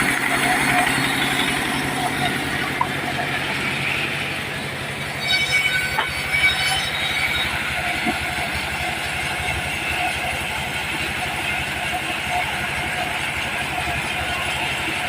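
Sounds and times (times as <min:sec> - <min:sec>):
diesel engine thrumming: 0:00.0 - 0:15.0
high metallic whine: 0:00.0 - 0:15.0.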